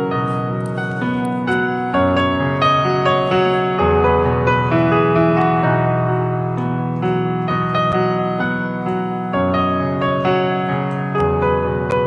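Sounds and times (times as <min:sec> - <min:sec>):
slow piano piece: 0:00.0 - 0:12.0.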